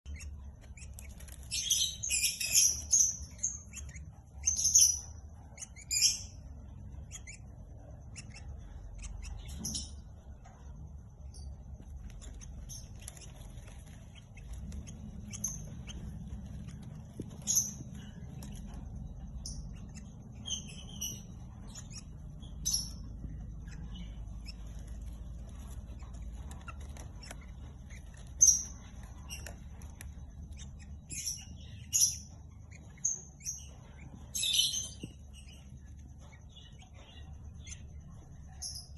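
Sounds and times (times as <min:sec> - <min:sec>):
birds chirping and squeaking: 0:00.0 - 0:38.9
steady low hum: 0:00.0 - 0:38.9.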